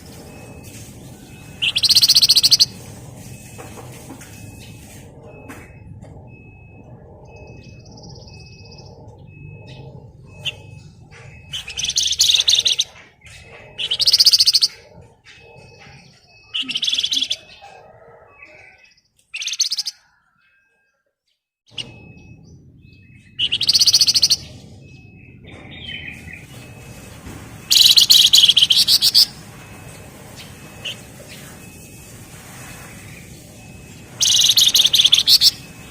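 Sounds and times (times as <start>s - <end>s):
faint high peep: 0.0s - 35.9s
bird singing rattling trill: 0.3s - 3.6s, 4.4s - 21.0s, 21.7s - 35.9s.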